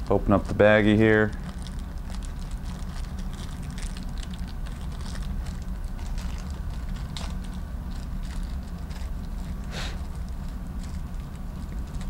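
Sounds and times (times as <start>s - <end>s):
plastic bag crinkling: 0.0s - 12.0s
steady low hum: 0.0s - 12.0s.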